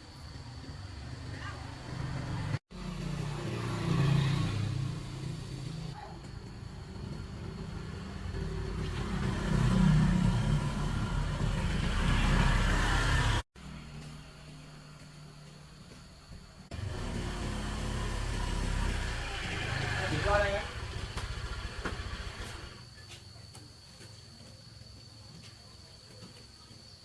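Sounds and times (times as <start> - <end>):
vehicle engine running: 0.7 - 22.8.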